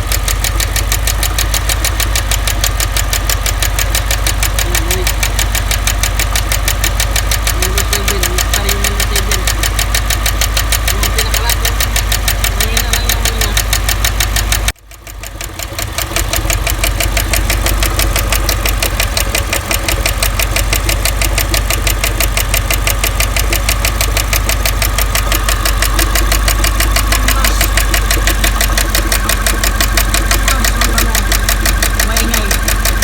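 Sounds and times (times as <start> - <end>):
engine running: 0.0 - 33.0
rapid valvetrain tapping: 0.0 - 33.0.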